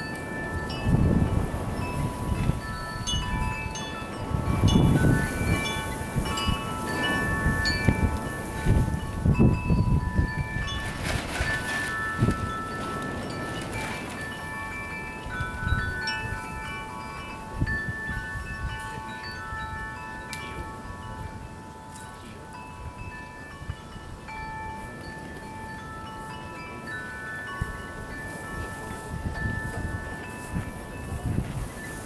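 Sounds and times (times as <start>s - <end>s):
wind chimes ringing: 0.0s - 32.0s.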